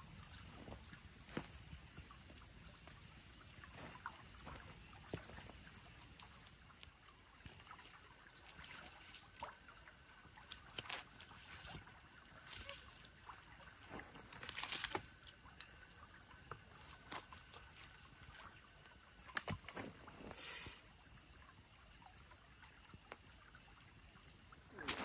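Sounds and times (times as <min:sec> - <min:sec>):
campfire crackling and popping: 0:00.0 - 0:08.5, 0:09.2 - 0:25.0.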